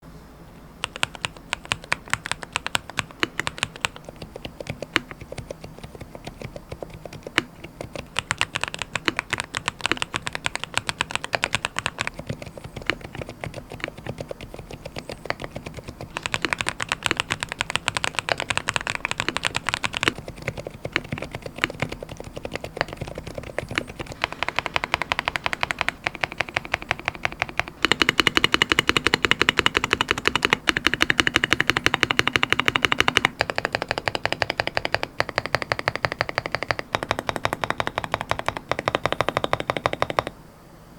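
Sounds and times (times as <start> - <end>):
rapid keyboard typing: 0.8 - 40.4.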